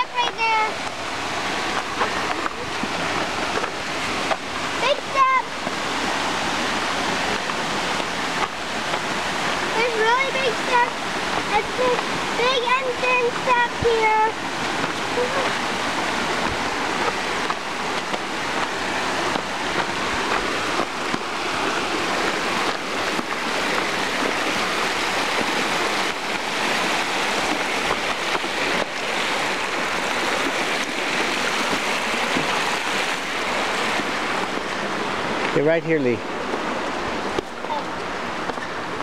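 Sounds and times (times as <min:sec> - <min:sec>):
stream and waterfall rushing: 0:00.0 - 0:39.0.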